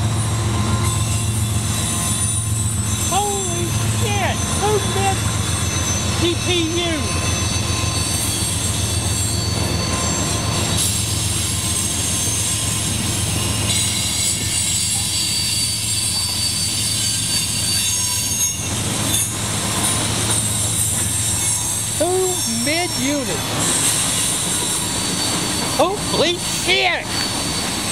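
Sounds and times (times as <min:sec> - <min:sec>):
train wheels rumbling on rails: 0:00.0 - 0:27.9
high-pitched wheel squeal: 0:00.6 - 0:27.9.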